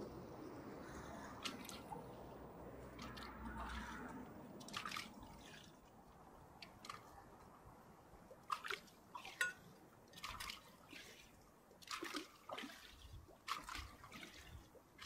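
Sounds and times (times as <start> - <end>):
waves lapping against concrete: 0.0 - 15.0.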